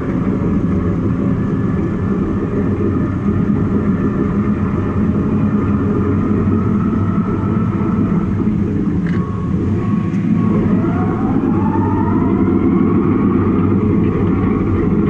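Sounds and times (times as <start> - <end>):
bulldozer diesel engine: 0.0 - 15.0
faint steady whine: 0.0 - 15.0.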